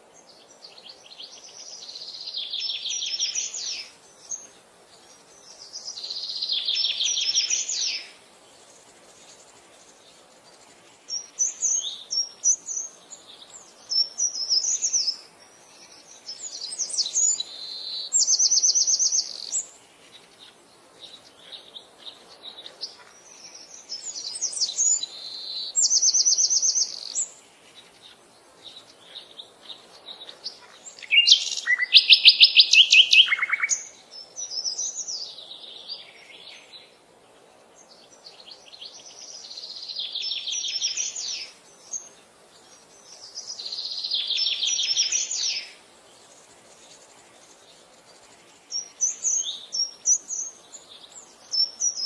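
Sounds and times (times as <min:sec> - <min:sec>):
songbirds singing with trills: 0:00.0 - 0:52.0.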